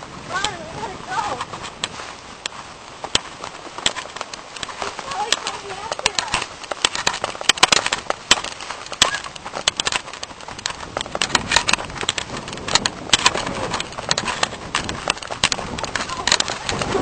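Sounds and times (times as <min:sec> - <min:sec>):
running footsteps through undergrowth: 0:00.0 - 0:17.0.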